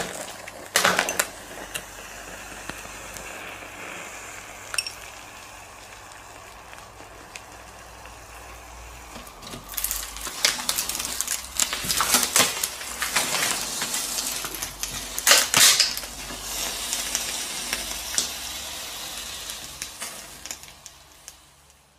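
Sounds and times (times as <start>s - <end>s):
molten metal sizzling and popping: 0.0s - 21.9s.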